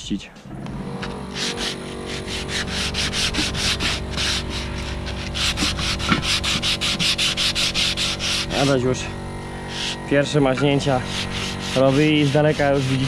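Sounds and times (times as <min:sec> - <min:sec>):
sandpaper rasping on metal: 0:01.2 - 0:09.1, 0:09.7 - 0:13.0.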